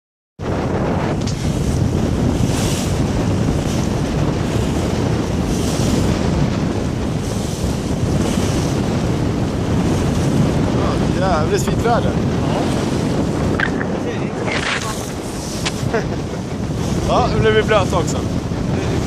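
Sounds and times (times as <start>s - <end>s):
wind buffeting microphone: 0.4s - 19.0s
water splashing along boat hull: 0.6s - 19.0s.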